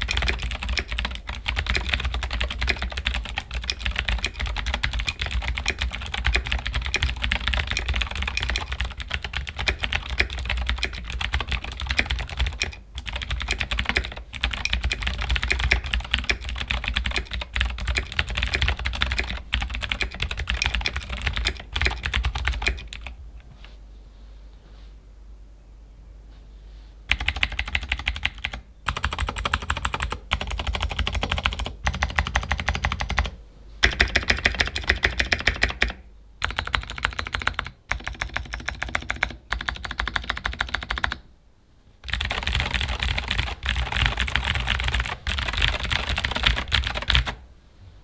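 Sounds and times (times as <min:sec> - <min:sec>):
fast clicky mechanical keyboard typing: 0:00.0 - 0:23.2, 0:27.1 - 0:41.2, 0:42.0 - 0:47.4.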